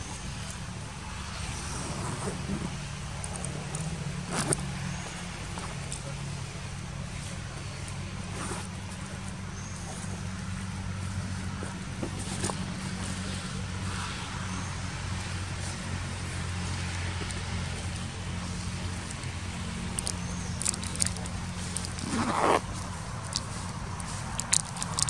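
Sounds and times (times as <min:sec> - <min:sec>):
low engine hum: 0:00.0 - 0:25.0
outdoor ambience hiss: 0:00.0 - 0:25.0.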